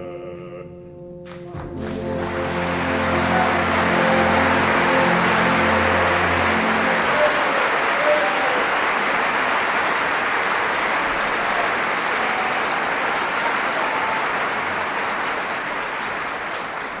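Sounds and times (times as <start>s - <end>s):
large audience applauding: 1.6s - 17.0s.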